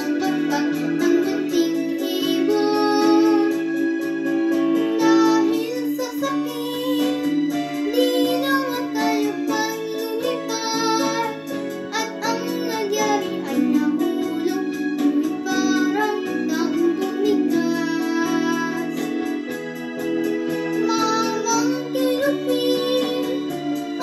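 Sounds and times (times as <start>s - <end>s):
girl singing: 0.0s - 3.7s, 4.8s - 19.4s, 20.7s - 24.0s
instrumental backing track: 0.0s - 24.0s.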